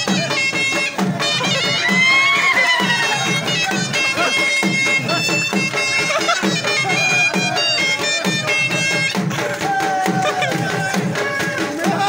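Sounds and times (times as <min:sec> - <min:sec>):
steady drum beat: 0:00.0 - 0:12.0
wind instrument melody: 0:00.0 - 0:12.0.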